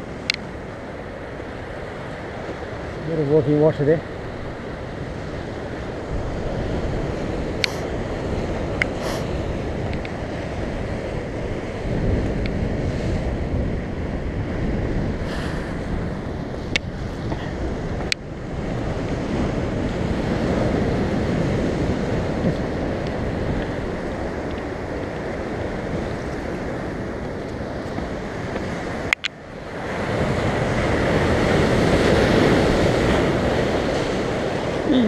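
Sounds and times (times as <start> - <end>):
surf breaking over rocks: 0.0 - 35.0
wind buffeting microphone: 0.0 - 35.0.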